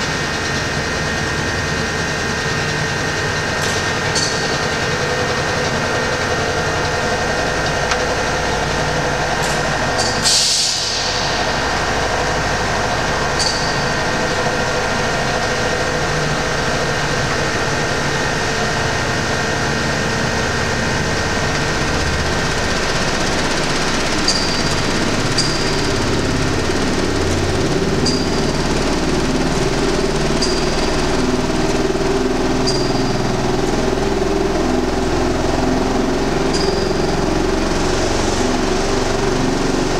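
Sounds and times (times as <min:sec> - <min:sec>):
mechanical hum and hiss: 0:00.0 - 0:39.9.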